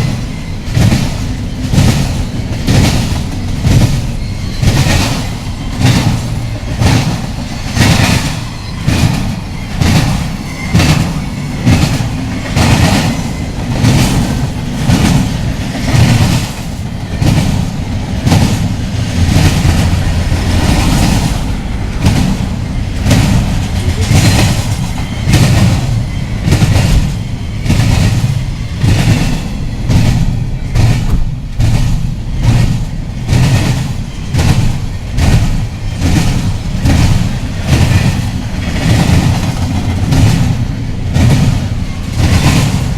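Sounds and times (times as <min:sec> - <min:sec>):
train rumble: 0:00.0 - 0:42.9
wheels clacking over rail joints: 0:00.0 - 0:42.9.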